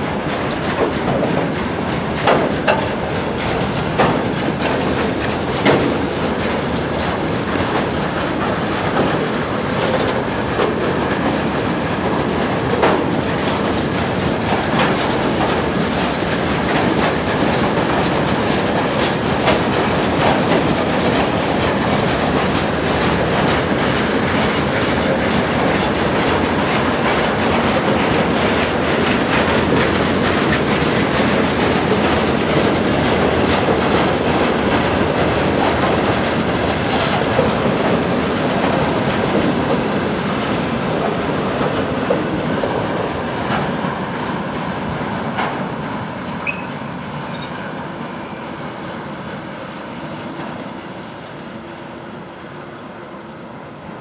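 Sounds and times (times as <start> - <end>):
wheels clacking over rail joints: 0.0 - 50.8
freight train rolling past: 0.0 - 54.0.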